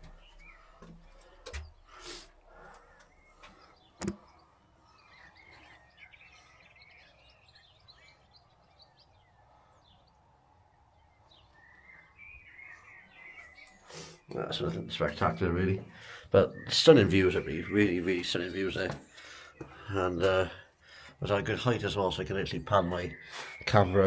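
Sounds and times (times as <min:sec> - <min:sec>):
small birds chirping faintly: 0:00.0 - 0:24.0.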